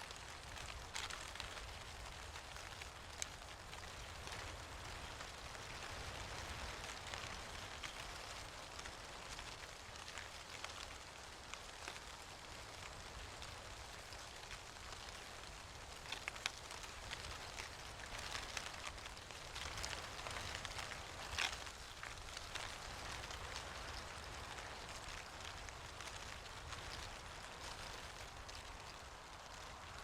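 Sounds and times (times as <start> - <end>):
falling leaves rustling and ticking: 0.0 - 30.0.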